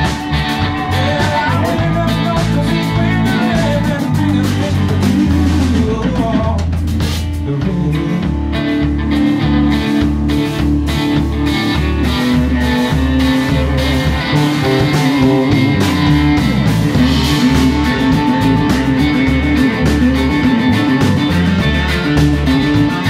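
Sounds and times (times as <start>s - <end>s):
bass line: 0.0s - 23.0s
electric guitars: 0.0s - 23.0s
steady drum beat: 0.0s - 23.0s.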